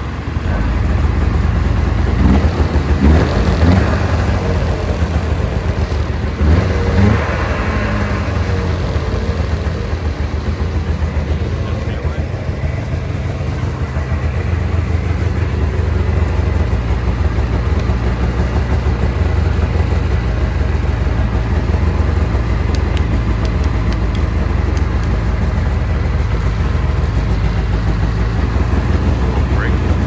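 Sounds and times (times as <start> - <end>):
snowmobile engine idling: 0.0 - 30.0.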